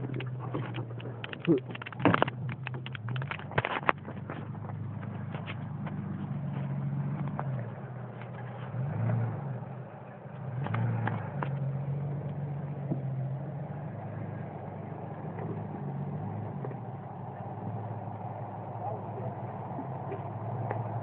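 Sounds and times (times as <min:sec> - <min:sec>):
car engine running: 0:00.0 - 0:21.0
engine revs: 0:00.0 - 0:21.0.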